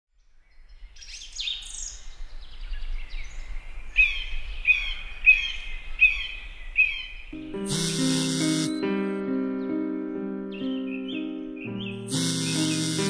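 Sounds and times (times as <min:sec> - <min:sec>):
birds chirping: 0:00.5 - 0:13.0.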